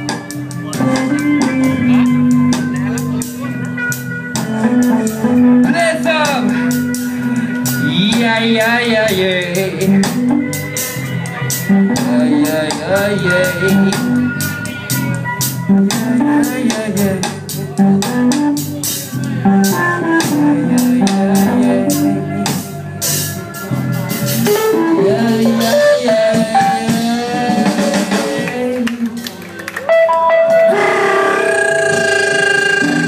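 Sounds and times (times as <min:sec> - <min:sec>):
bass line: 0:00.0 - 0:28.8, 0:29.8 - 0:33.0
guitar: 0:00.0 - 0:33.0.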